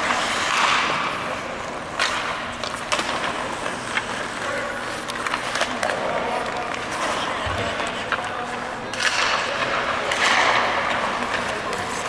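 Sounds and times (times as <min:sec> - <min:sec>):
pucks and sticks clacking: 0:00.0 - 0:12.0
skates scraping ice: 0:00.0 - 0:12.0.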